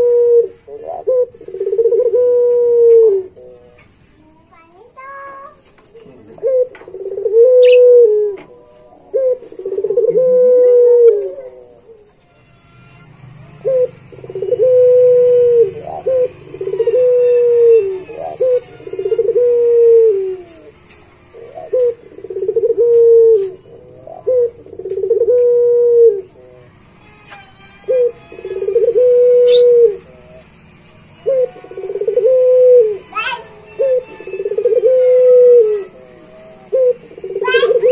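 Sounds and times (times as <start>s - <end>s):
dove cooing: 0.0s - 4.4s, 6.0s - 12.1s, 13.5s - 27.2s, 27.8s - 37.9s.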